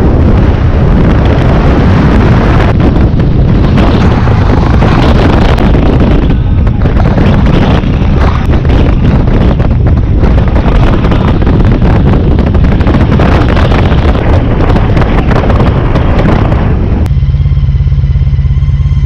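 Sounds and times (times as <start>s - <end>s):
motorcycle running: 0.0s - 19.0s
wind roar on microphone: 0.0s - 19.0s.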